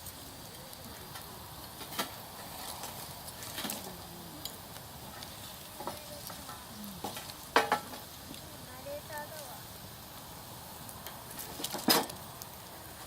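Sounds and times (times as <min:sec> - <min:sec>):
campfire crackling and popping: 0:00.0 - 0:13.0
low fire hiss: 0:00.0 - 0:13.0.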